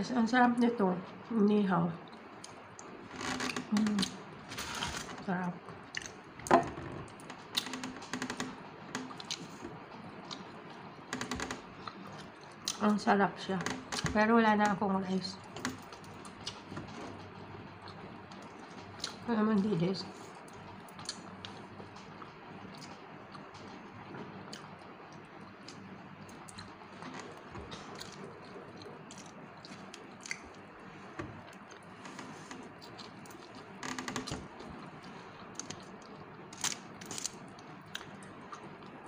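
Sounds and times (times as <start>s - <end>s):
steady low hum: 0.0s - 39.0s
faint chewing: 2.0s - 6.4s, 7.0s - 13.1s, 14.7s - 19.3s, 20.0s - 39.0s.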